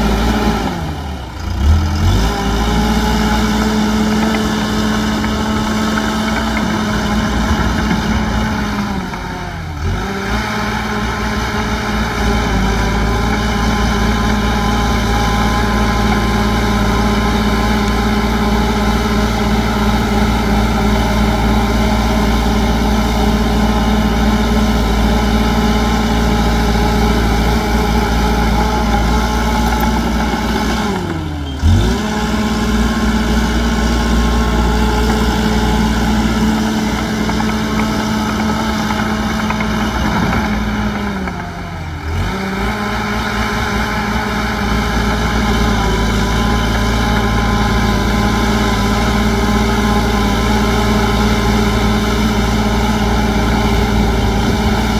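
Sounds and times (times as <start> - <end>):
diesel engine running hard: 0.0 - 54.9.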